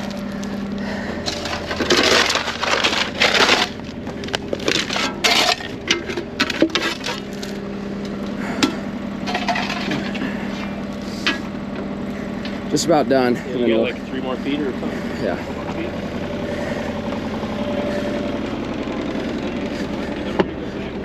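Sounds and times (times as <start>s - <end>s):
dirt and rock crunching: 0.0s - 13.6s, 14.8s - 21.0s
engine running: 0.0s - 21.0s.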